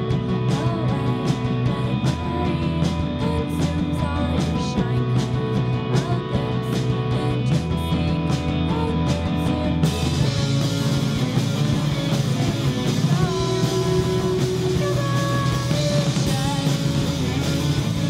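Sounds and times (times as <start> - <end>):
electric bass: 0.0 - 18.0
electric guitars: 0.0 - 18.0
steady drum beat: 0.0 - 18.0.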